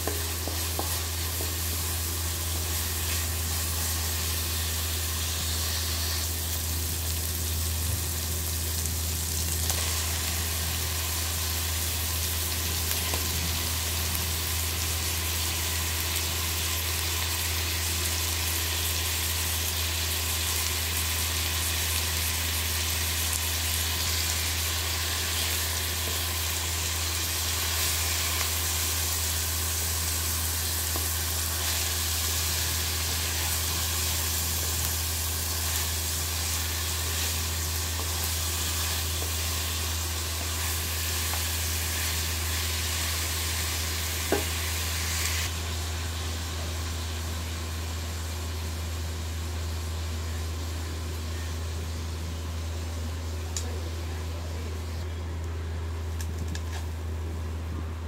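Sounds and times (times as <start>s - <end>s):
chicken frying in oil: 0.0s - 51.0s.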